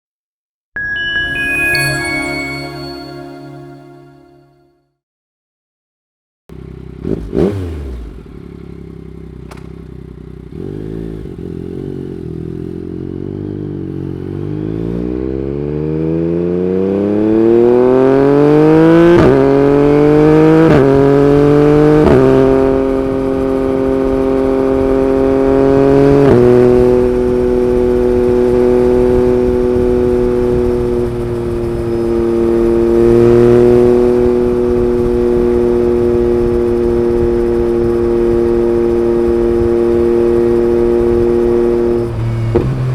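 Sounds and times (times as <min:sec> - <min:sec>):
motorcycle engine accelerating: 0:06.5 - 0:42.9.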